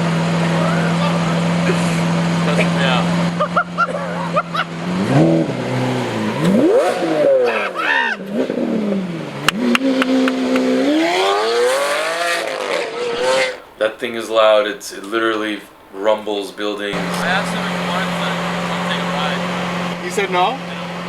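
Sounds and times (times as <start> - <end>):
car engine idling and revving: 0.0 - 13.8, 16.9 - 21.0.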